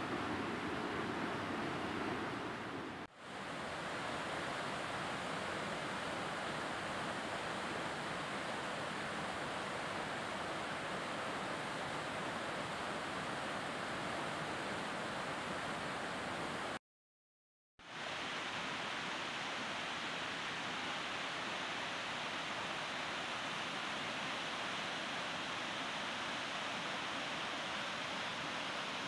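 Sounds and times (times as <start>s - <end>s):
waterfall and stream rapids: 0.0s - 16.8s, 17.8s - 29.0s.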